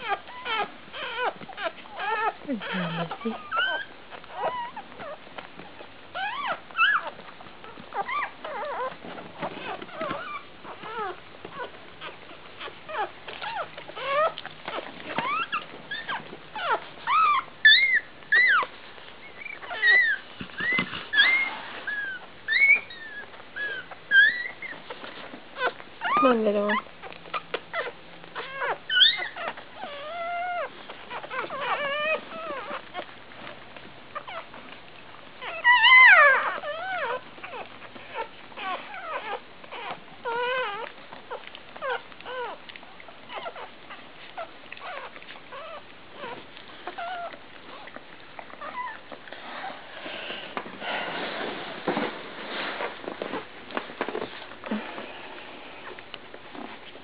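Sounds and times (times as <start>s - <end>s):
puppies squeaking and whimpering: 0.0s - 57.0s
soft scuffling with clicks: 0.1s - 57.0s.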